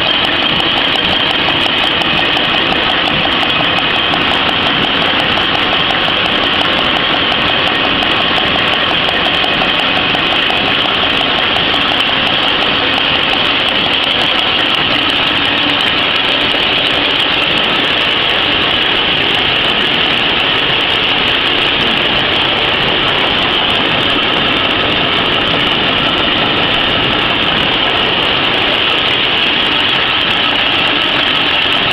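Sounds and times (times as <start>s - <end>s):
machine running with high hiss: 0.0s - 31.9s.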